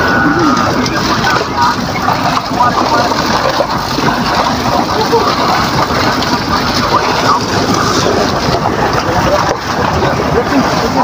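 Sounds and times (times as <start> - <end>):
boat engine running: 0.0 - 11.0
water splashing and dripping: 0.0 - 11.0.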